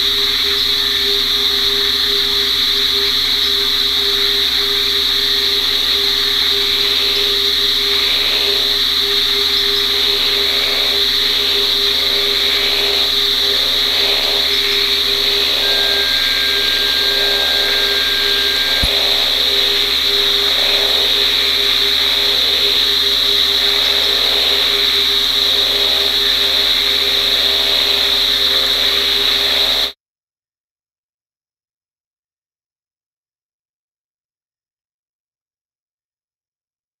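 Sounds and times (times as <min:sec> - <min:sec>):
chorus of frogs calling: 0:00.0 - 0:29.9.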